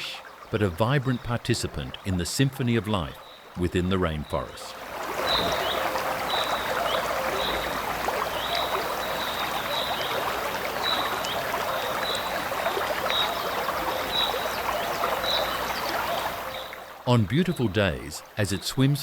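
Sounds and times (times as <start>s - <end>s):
river water rushing: 0.0s - 18.4s.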